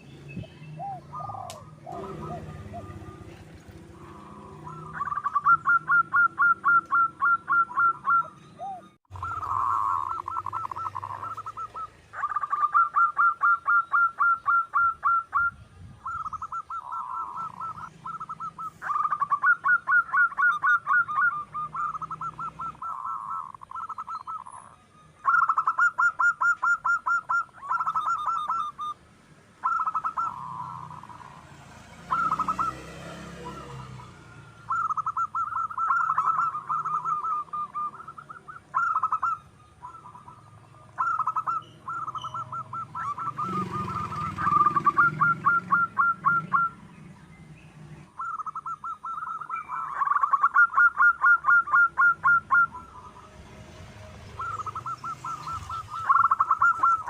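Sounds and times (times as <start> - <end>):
dove cooing: 0.6 - 29.0, 29.6 - 47.2, 48.1 - 57.0.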